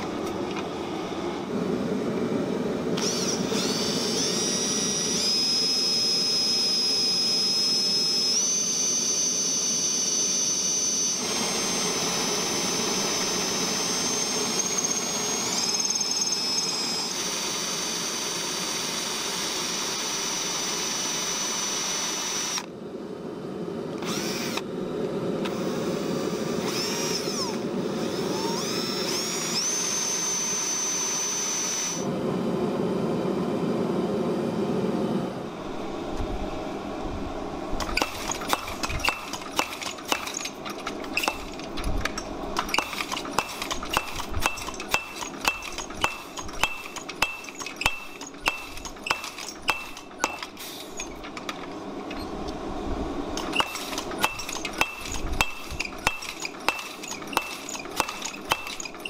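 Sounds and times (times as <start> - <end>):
electric drill whining: 3.0 - 22.7, 24.0 - 24.7, 25.4 - 32.1, 37.8 - 52.6, 53.4 - 59.0.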